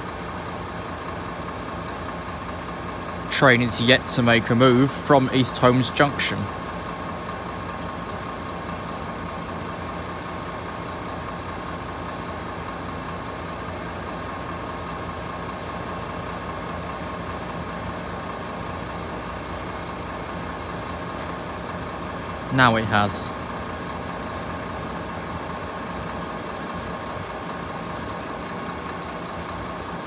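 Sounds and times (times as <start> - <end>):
low engine hum: 0.0 - 30.0.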